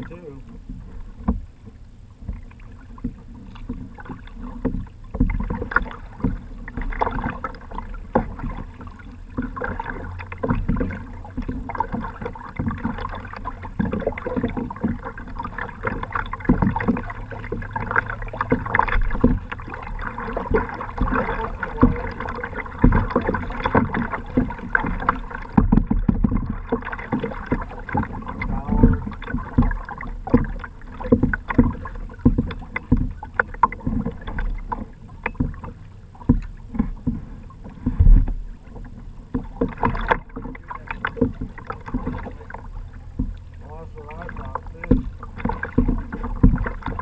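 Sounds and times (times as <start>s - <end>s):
water splashing against kayak hull: 0.0s - 47.0s.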